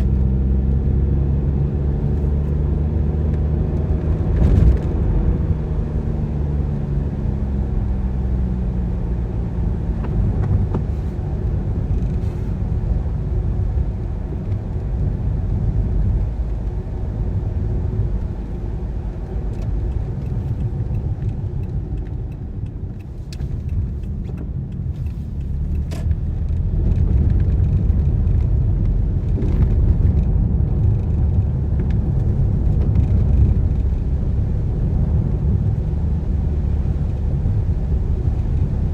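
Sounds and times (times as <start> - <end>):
car engine rumble: 0.0 - 38.9
road noise: 0.0 - 38.9.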